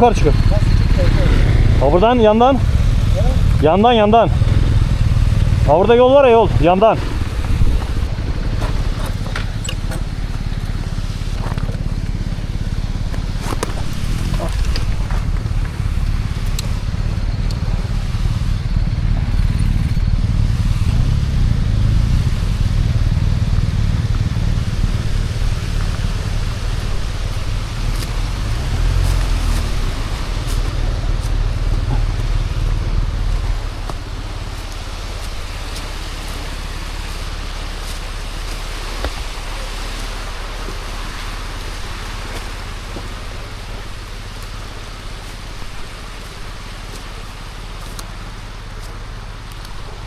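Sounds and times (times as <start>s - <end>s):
motorcycle engine: 0.0s - 50.0s
wind rumble on microphone: 0.0s - 50.0s.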